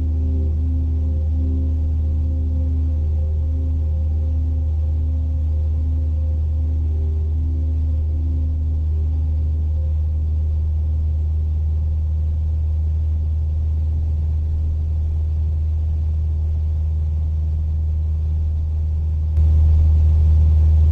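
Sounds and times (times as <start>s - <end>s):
light aircraft engine droning: 0.0s - 20.9s.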